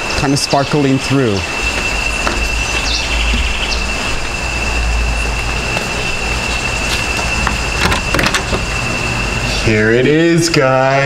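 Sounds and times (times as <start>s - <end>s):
insects buzzing: 0.0s - 11.0s
low microphone rumble: 1.4s - 11.0s.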